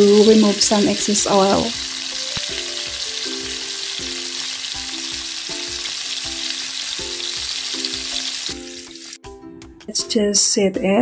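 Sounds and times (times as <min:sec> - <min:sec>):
oil sizzling and crackling: 0:00.0 - 0:09.2.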